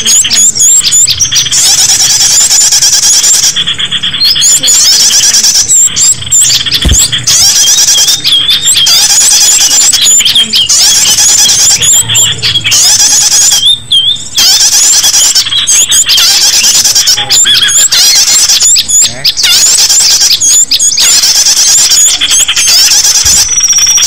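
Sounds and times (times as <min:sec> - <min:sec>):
small birds chirping and trilling: 0:00.0 - 0:24.0.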